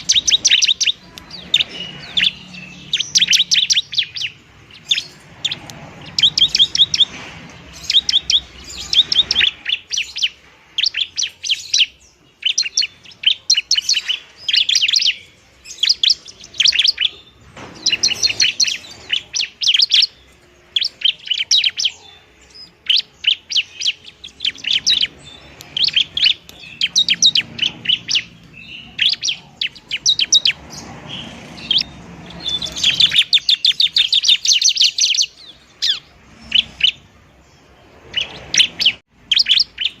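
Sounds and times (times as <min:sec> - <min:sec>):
bird singing rapid trills: 0:00.0 - 0:40.0.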